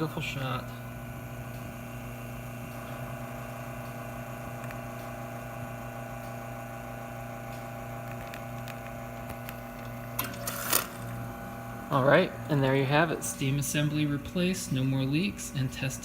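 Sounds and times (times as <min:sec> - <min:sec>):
espresso machine pump humming: 0:00.0 - 0:16.0.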